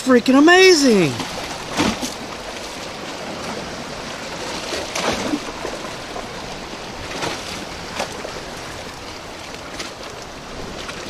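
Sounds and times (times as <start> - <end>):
sea water washing: 0.0 - 11.0.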